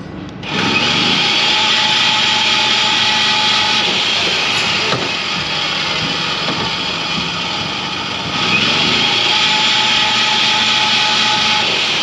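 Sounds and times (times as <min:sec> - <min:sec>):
rebar bending machine whining: 0:00.4 - 0:12.0.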